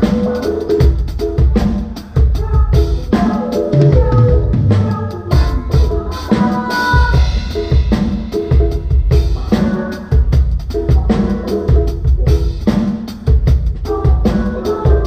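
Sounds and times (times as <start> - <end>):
drum kit steady beat: 0.0 - 15.0.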